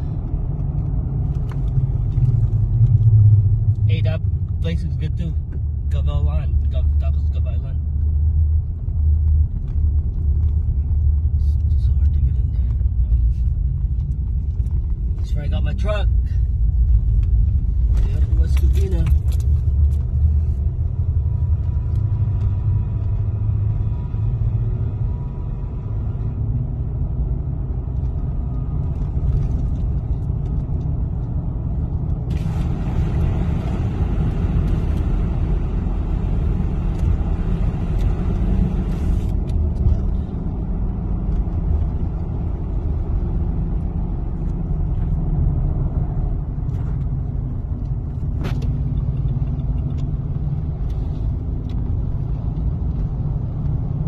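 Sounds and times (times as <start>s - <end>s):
road and engine rumble: 0.0s - 54.0s.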